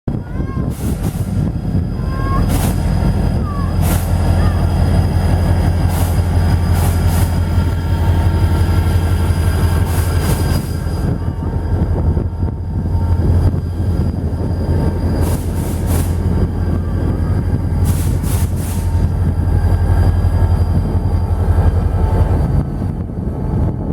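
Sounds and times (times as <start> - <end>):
diesel engine rumble: 0.1 - 23.9
high-pitched wheel squeal: 0.6 - 22.7.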